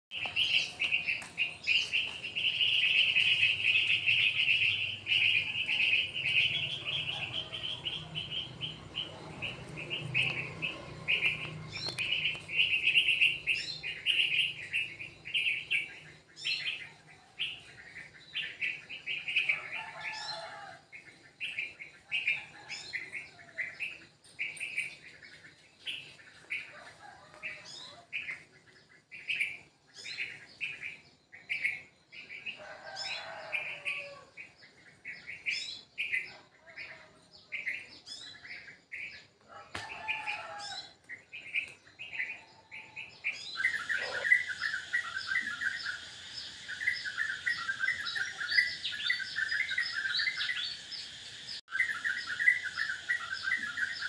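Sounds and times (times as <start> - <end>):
small birds chirping: 0.1 - 54.0.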